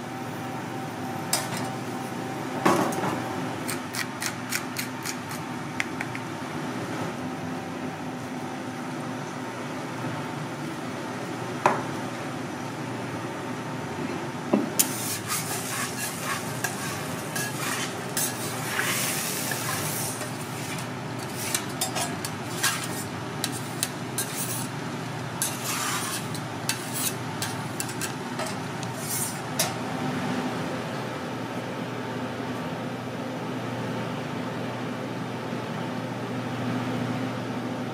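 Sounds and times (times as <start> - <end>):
steady hum: 0.0 - 37.9.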